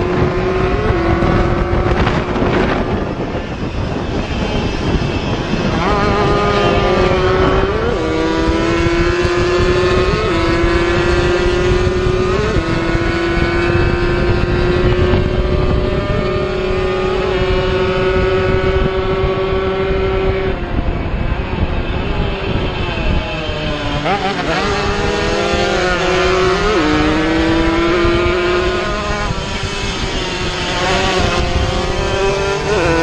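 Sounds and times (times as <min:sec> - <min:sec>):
two-stroke motorcycle engines revving: 0:00.0 - 0:33.0.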